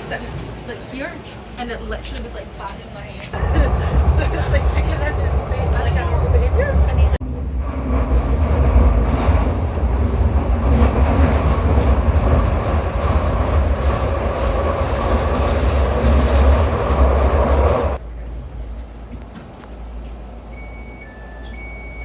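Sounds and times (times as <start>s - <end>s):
subway train rumbling on rails: 0.0s - 22.0s.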